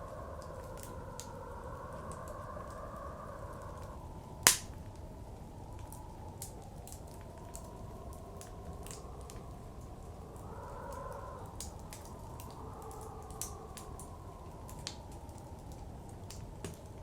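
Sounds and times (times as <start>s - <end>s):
blizzard wind rushing: 0.0s - 17.0s
wood fire crackling and popping: 0.0s - 17.0s.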